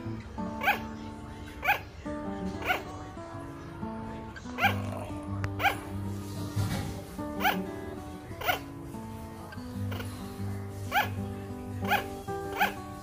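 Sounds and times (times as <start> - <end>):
sugar glider barking: 0.0 - 13.0.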